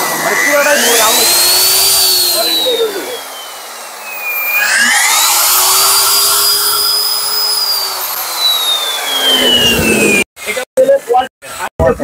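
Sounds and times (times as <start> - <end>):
core drill motor whining: 0.0 - 10.3.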